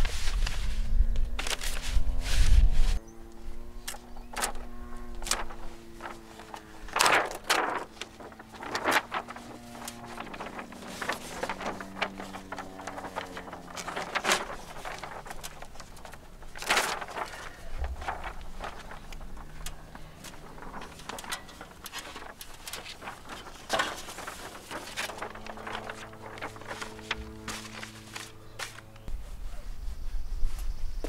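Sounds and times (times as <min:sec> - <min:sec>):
paper rustling: 0:00.0 - 0:03.0, 0:03.8 - 0:29.7
tape tearing: 0:01.4 - 0:02.9, 0:03.8 - 0:29.0.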